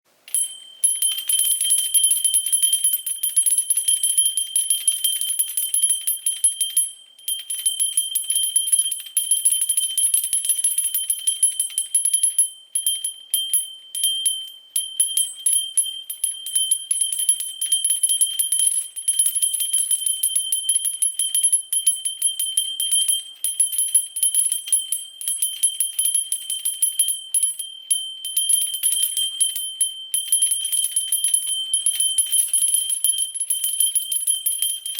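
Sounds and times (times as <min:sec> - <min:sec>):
small bell ringing: 0:00.3 - 0:34.9.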